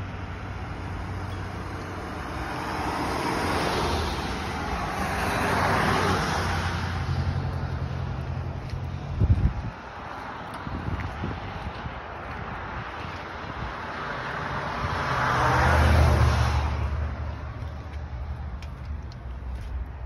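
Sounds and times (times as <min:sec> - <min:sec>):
traffic engine hum: 0:00.0 - 0:20.0
vehicle passing: 0:00.0 - 0:20.0.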